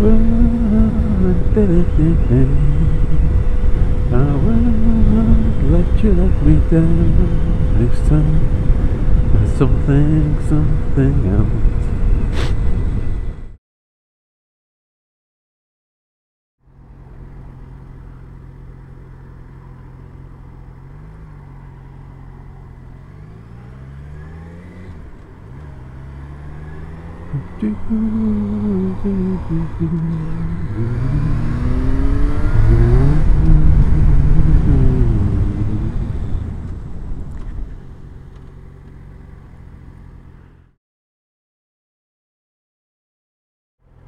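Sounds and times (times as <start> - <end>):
motorcycle engine revving: 0.0 - 12.8, 16.8 - 40.7.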